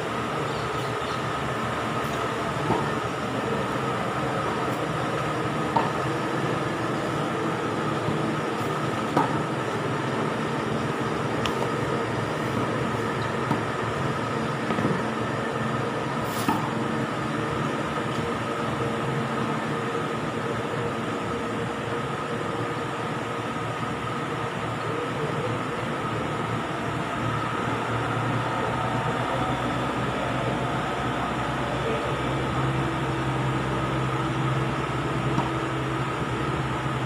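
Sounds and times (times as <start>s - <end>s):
mechanical hum with tones: 0.0s - 37.0s.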